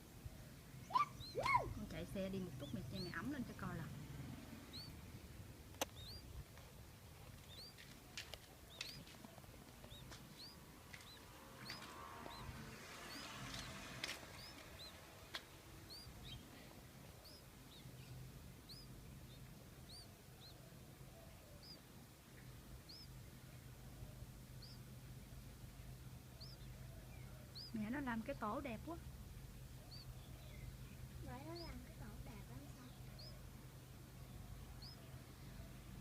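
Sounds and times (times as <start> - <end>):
nestling birds peeping: 0.0 - 36.0.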